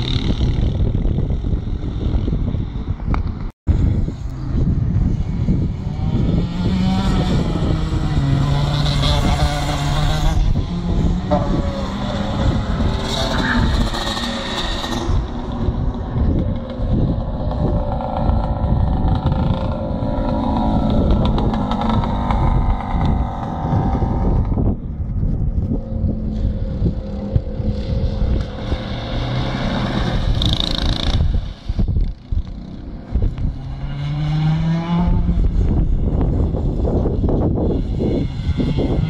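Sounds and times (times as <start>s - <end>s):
go-kart engines racing: 0.0s - 39.0s
wind buffeting microphone: 0.0s - 39.0s.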